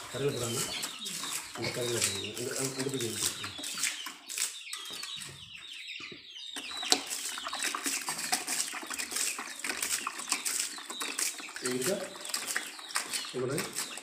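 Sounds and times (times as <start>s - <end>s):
liquid slapping and splashing: 0.0s - 5.2s, 6.6s - 14.0s
birds chirping: 0.0s - 14.0s.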